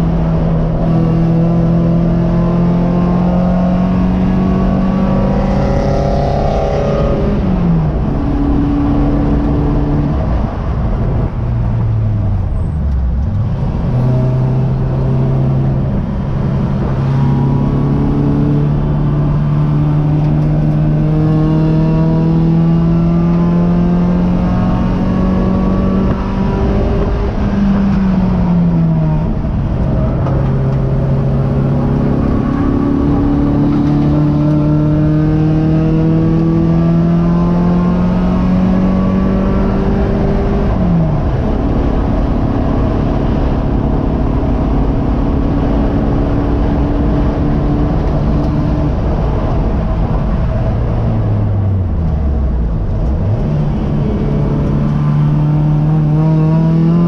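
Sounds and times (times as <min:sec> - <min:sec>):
race car engine: 0:00.0 - 0:57.0
road and wind noise: 0:00.0 - 0:57.0.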